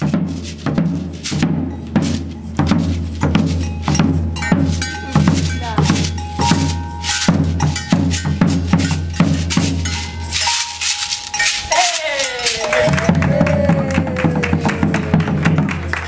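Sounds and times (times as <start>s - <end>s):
bass drum beating: 0.0s - 11.7s, 12.4s - 16.0s
metal hand bell: 0.0s - 15.2s
shaker: 0.0s - 16.0s.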